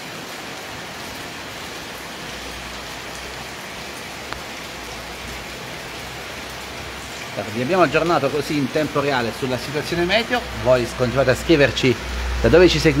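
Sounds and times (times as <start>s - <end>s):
rain on stone pavement: 0.0s - 13.0s.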